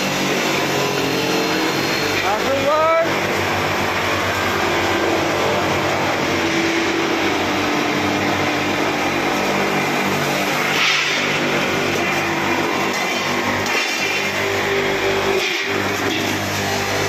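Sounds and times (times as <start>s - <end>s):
buffing wheel motor humming: 0.0s - 17.0s.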